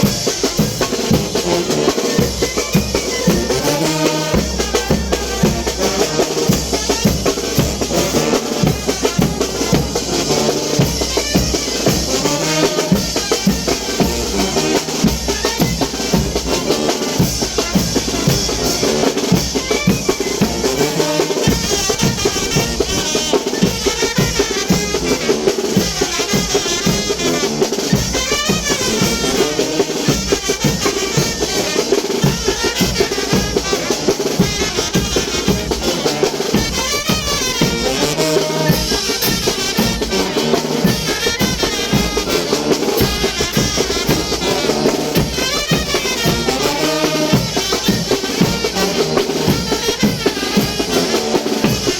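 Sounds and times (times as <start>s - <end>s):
bass drum and snare beat: 0.0s - 51.9s
brass band playing dance music: 0.0s - 51.9s.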